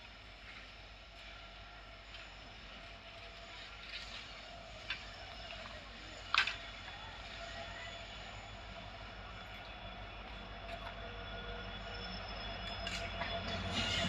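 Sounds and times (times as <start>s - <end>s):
electric locomotive hum and whine: 0.0s - 14.0s.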